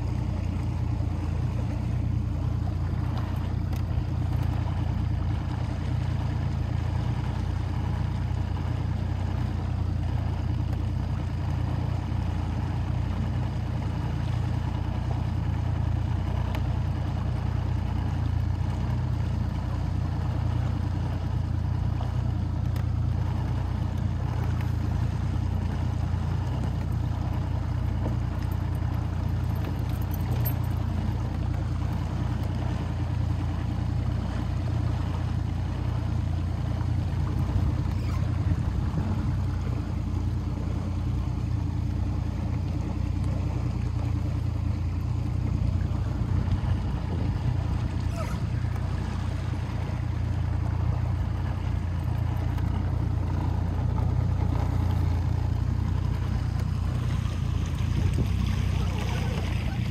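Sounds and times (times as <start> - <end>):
boat motor droning: 0.0 - 59.9.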